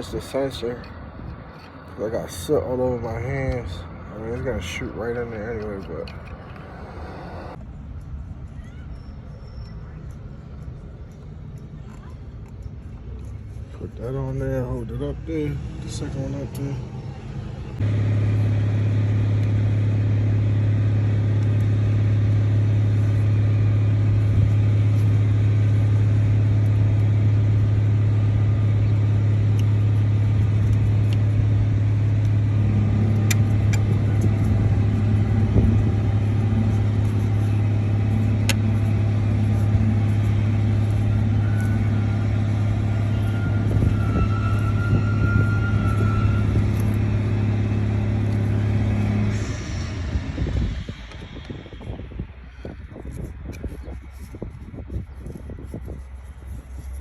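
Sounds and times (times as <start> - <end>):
diesel truck engine humming: 0.0 - 7.6, 10.0 - 53.6.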